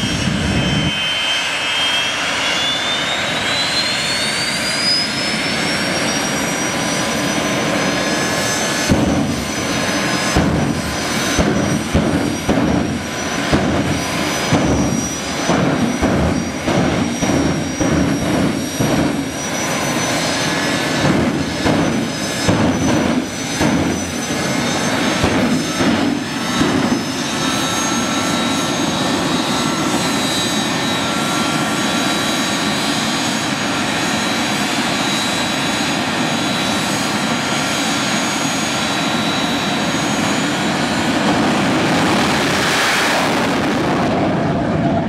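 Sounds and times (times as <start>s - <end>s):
high turbine whine: 0.0s - 45.0s
jet engine roaring and popping: 0.0s - 45.0s.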